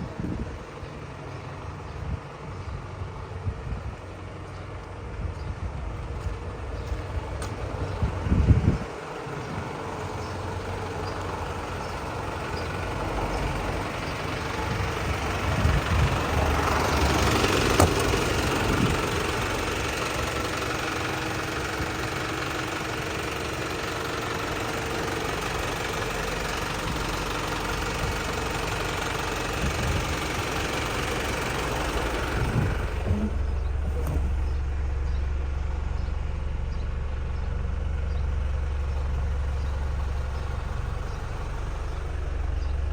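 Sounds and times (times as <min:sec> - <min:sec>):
truck diesel engine idling: 0:00.0 - 0:42.9.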